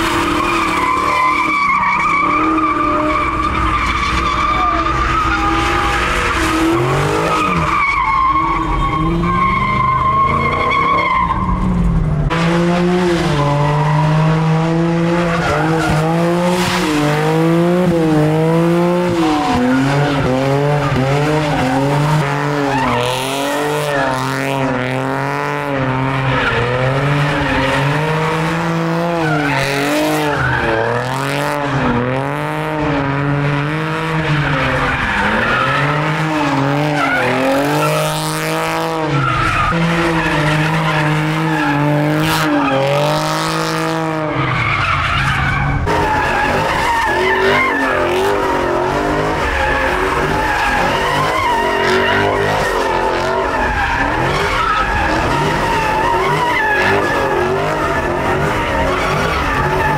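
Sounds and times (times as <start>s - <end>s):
car engine revving: 0.0s - 59.9s
tires squealing on pavement: 0.0s - 59.9s.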